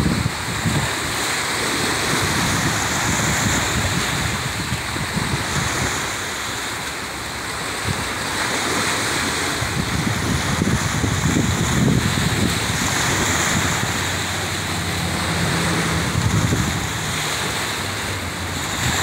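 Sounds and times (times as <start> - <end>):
wind buffeting microphone: 0.0 - 6.4, 7.3 - 19.0.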